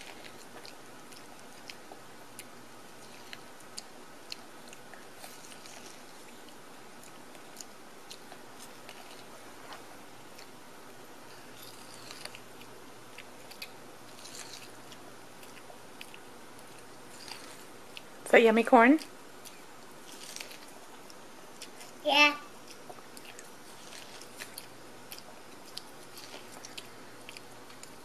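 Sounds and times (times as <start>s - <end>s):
toddler chewing corn: 0.0s - 18.2s, 19.0s - 28.0s
steady background hiss: 0.0s - 28.0s.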